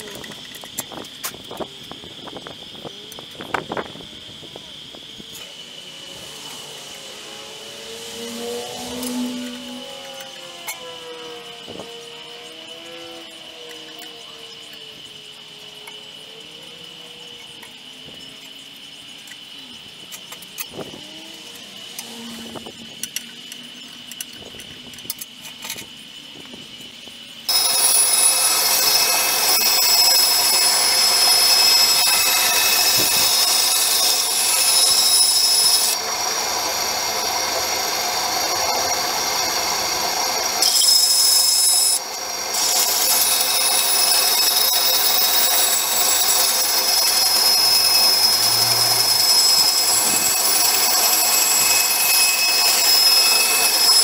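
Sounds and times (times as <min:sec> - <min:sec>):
bandsaw whining cutting wood: 0:00.0 - 0:17.6, 0:19.8 - 0:23.1, 0:27.5 - 0:54.0.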